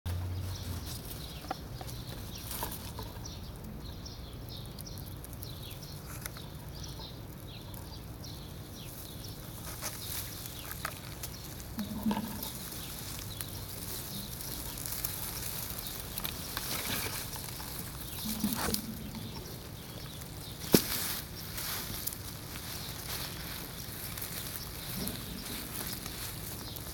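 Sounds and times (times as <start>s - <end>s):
crackling and rustling in grass: 0.1s - 26.9s
small birds chirping: 0.1s - 26.9s.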